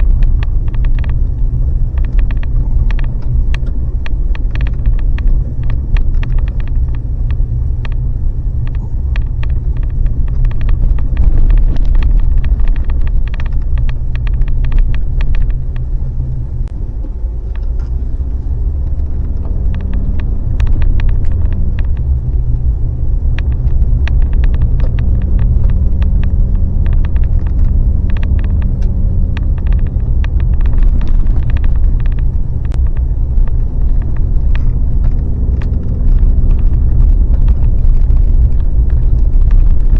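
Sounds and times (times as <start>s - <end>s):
clicks and rattles: 0.0s - 39.9s
vehicle road noise rumble: 0.0s - 39.9s.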